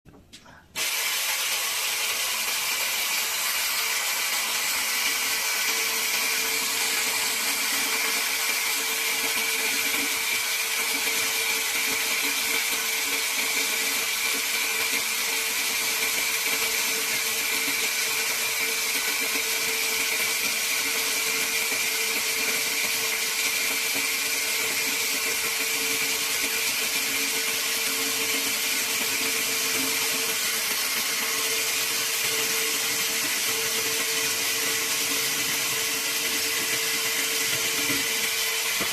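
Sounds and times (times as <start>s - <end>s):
electric chainsaw whining: 0.8s - 38.9s.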